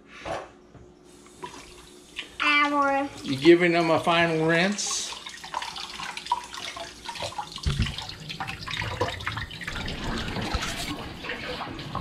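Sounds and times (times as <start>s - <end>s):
faucet water splashing into sink: 1.4s - 12.0s.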